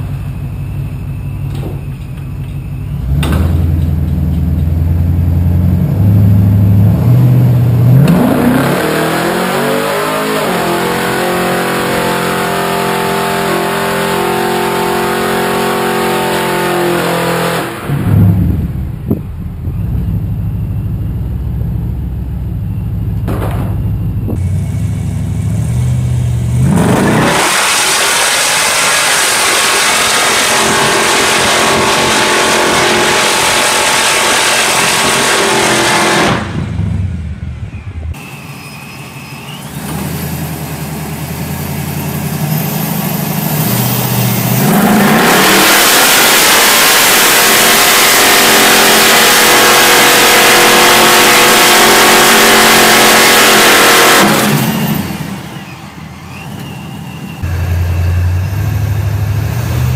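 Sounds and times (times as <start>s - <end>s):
car engine revving: 3.0s - 38.2s, 39.7s - 56.7s.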